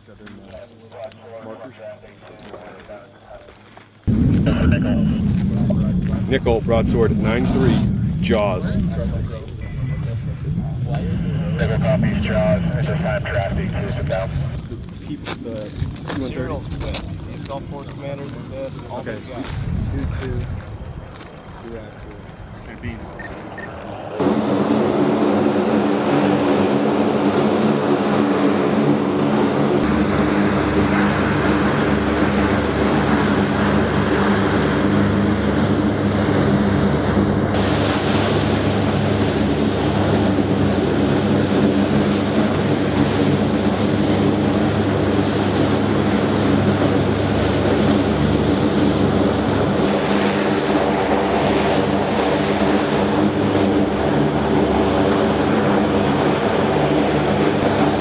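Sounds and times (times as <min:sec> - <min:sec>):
aircraft turbine engines droning: 0:00.0 - 0:58.0.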